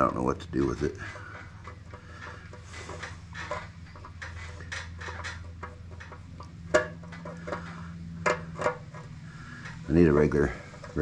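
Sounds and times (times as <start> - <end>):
steady low hum: 0.0 - 11.0
metal parts and tools clinking: 1.0 - 11.0.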